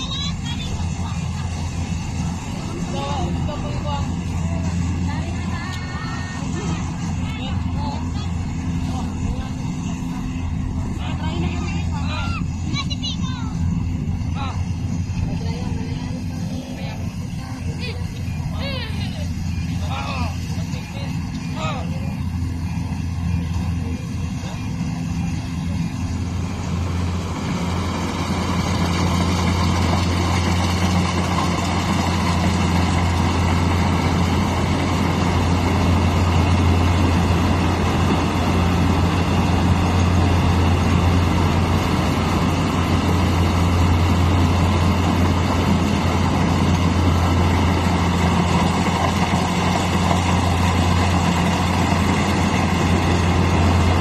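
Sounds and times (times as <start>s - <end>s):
harvester engine running: 0.0s - 54.0s.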